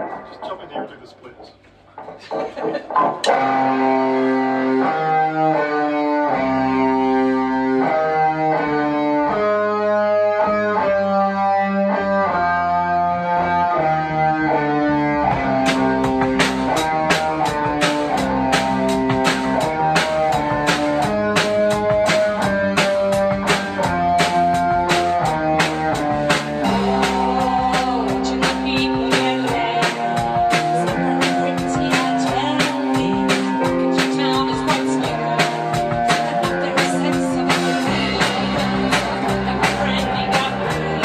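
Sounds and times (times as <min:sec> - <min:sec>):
drum kit beat: 0:00.0 - 0:11.0, 0:15.0 - 0:41.0
electric guitar and bass riff: 0:01.7 - 0:41.0.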